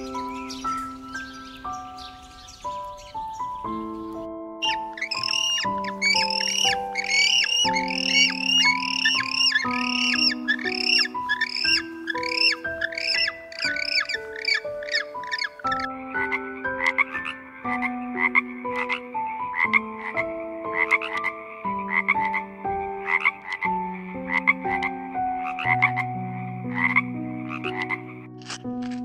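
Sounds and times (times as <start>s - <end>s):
frog croaking: 4.6s - 29.0s.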